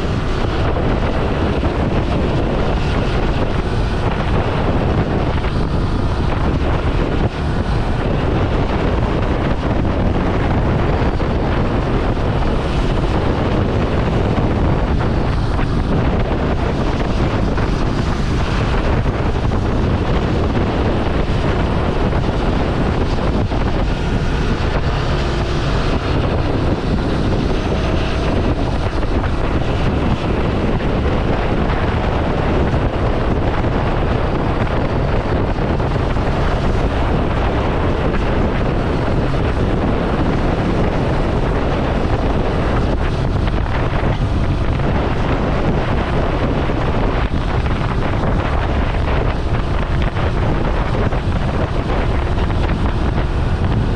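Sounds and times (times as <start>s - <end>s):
motorcycle engine running: 0.0s - 53.9s
wind buffeting on microphone: 0.0s - 53.9s.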